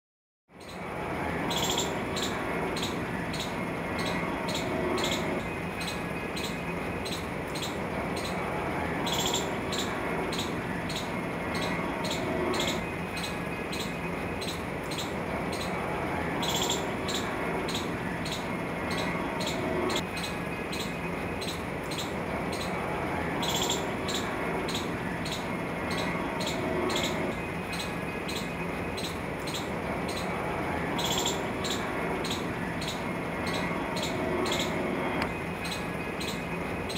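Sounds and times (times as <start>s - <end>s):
steady background hum: 0.5s - 36.9s
low rumble and hiss: 0.6s - 36.9s.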